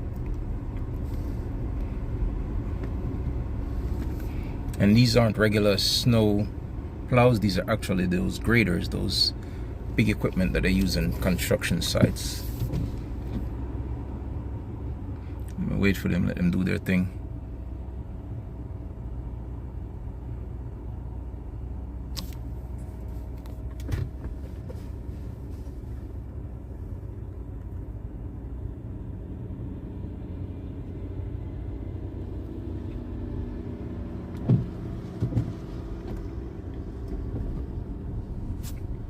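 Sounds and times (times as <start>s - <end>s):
car engine rumble: 0.0s - 39.0s.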